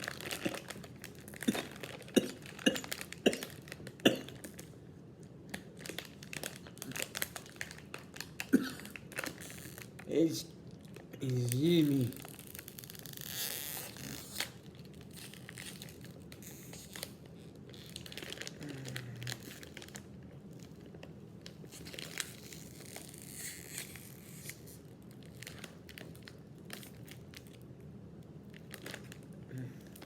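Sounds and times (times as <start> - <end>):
plastic snack bag crinkling: 0.0 - 4.8, 5.4 - 30.0.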